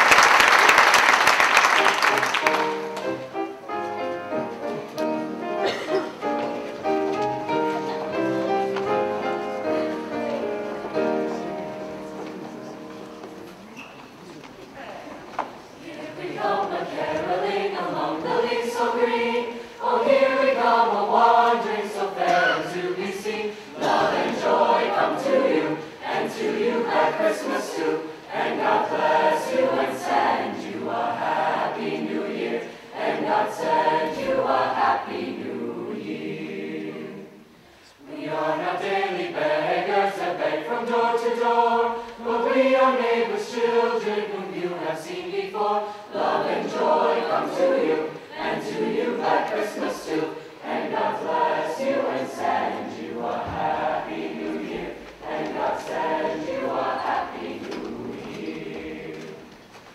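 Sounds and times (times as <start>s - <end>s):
girls' choir singing: 4.3s - 13.6s, 15.2s - 59.8s.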